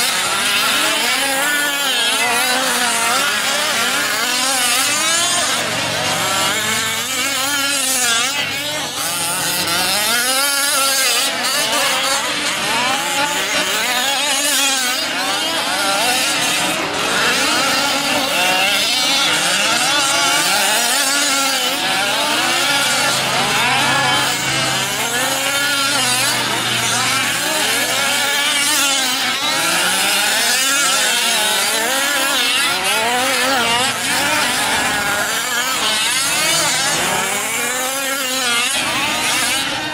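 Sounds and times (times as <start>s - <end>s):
rc truck engines revving: 0.0s - 39.9s.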